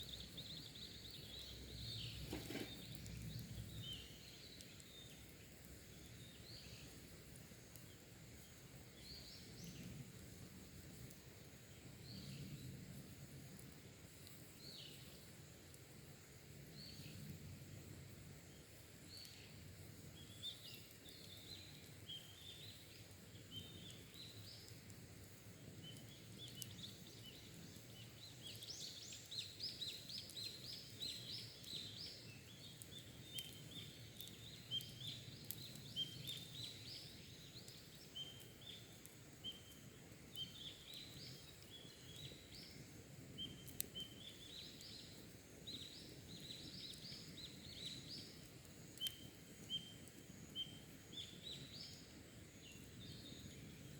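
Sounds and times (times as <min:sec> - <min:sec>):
campfire embers crackling: 0:00.0 - 0:53.9.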